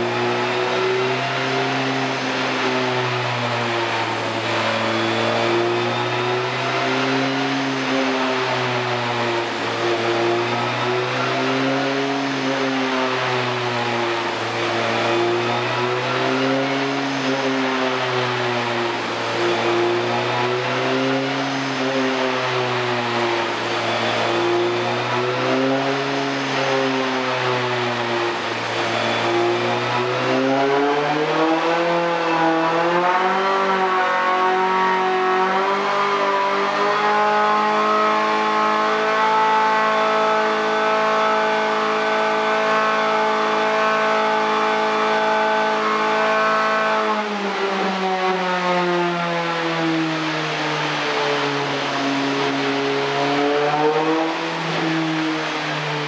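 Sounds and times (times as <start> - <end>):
race car engine under load: 0.0 - 56.0.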